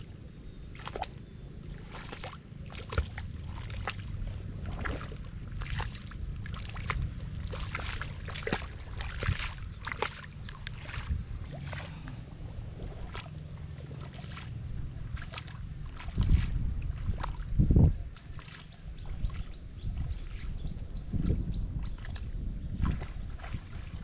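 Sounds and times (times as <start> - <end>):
feet splashing through water and mud: 0.7 - 24.0.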